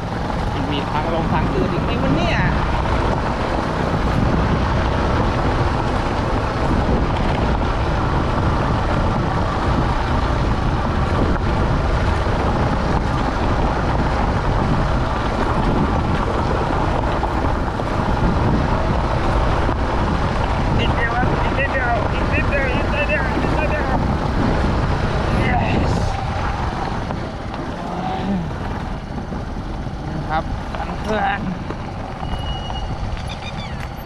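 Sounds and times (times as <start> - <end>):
motorcycle engine running: 0.0 - 34.0
wind rushing on microphone: 0.0 - 34.0.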